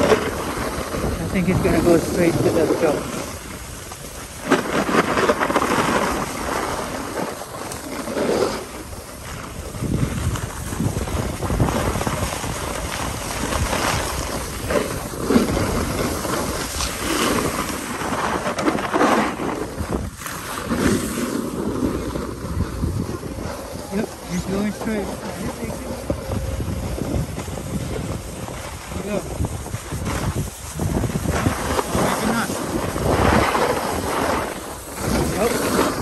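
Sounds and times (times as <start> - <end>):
snowboard scraping packed snow: 0.0 - 36.0
wind rushing over microphone: 0.0 - 36.0.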